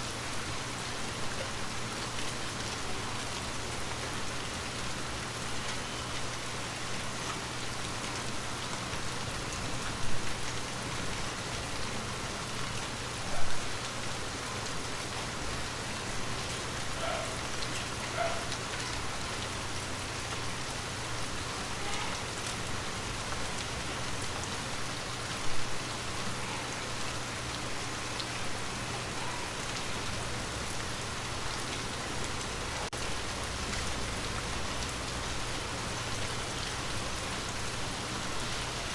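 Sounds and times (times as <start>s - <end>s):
rain falling on a window: 0.0s - 38.9s.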